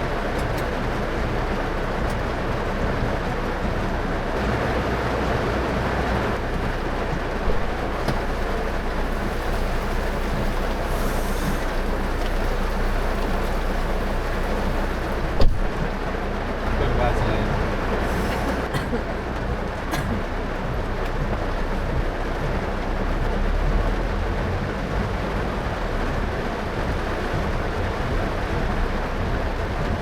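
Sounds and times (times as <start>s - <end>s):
heavy rain: 0.0s - 30.0s
tyre noise on wet road: 0.0s - 30.0s.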